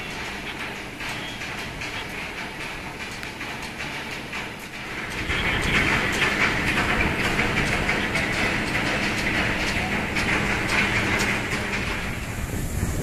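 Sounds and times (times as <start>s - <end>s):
ferry engines rumbling: 0.0s - 13.0s
water rushing along hull: 0.0s - 13.0s.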